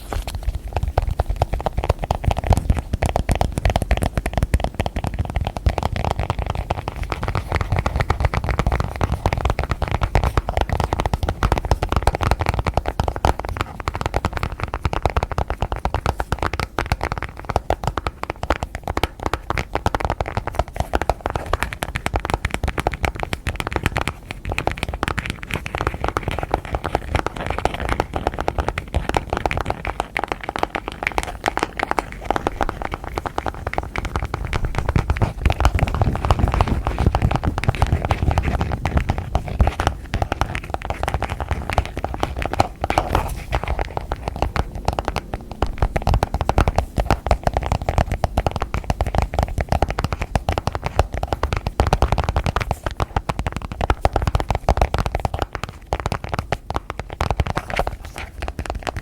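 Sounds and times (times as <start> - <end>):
fingertip tapping and scratching: 0.0 - 59.0.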